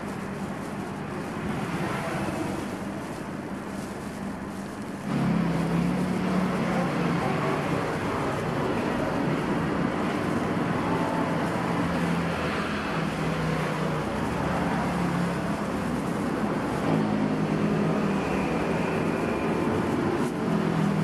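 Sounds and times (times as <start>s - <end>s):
vehicle engines humming past: 0.0s - 21.0s.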